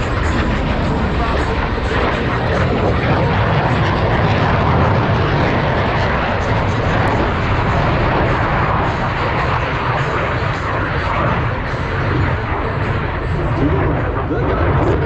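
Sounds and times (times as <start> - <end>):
jet engine noise: 0.0 - 15.0.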